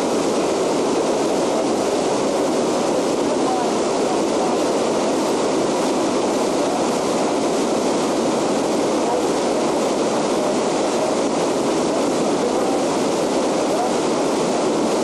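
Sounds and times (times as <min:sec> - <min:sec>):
river rapids rushing over rocks: 0:00.0 - 0:15.0.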